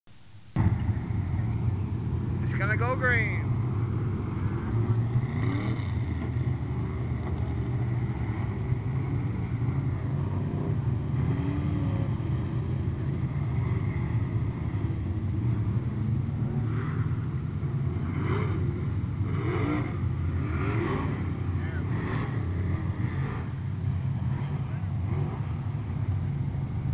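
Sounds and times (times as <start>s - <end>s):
race car engines rumbling: 0.4s - 26.9s.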